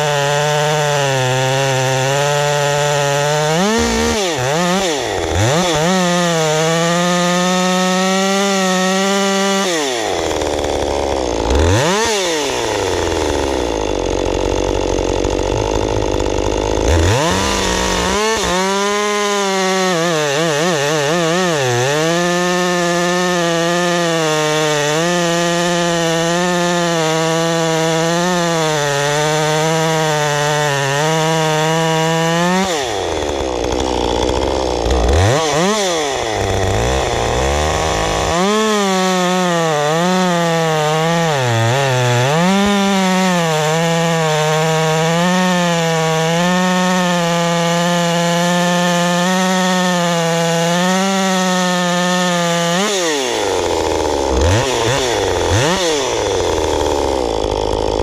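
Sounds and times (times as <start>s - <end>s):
chainsaw cutting log: 0.0s - 58.0s
chainsaw revving: 0.0s - 58.0s.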